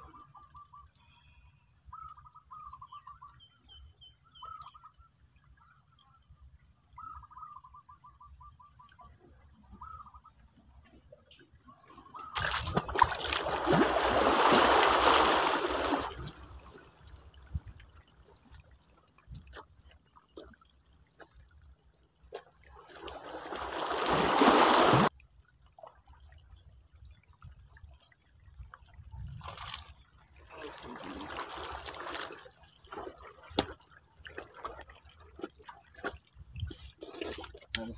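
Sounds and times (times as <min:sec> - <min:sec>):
water splashing and trickling: 0:00.0 - 0:37.9.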